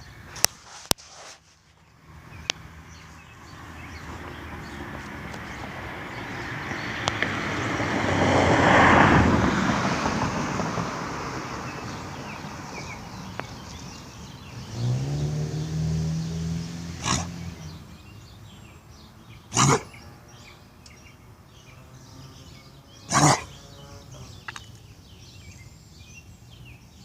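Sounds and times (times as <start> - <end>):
vehicle driving past: 1.9 - 24.4.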